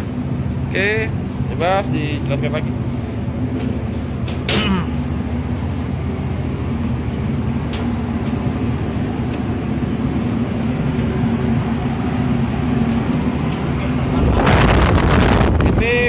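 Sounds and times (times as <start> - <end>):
diesel machinery drone: 0.0 - 16.0
low hum: 0.0 - 16.0.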